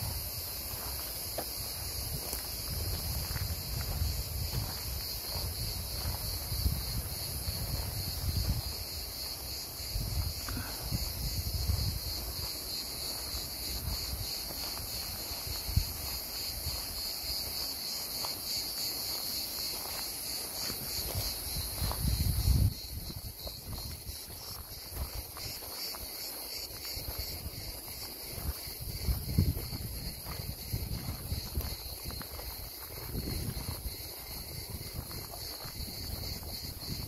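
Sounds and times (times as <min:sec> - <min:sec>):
cicadas chorus: 0:00.0 - 0:37.0.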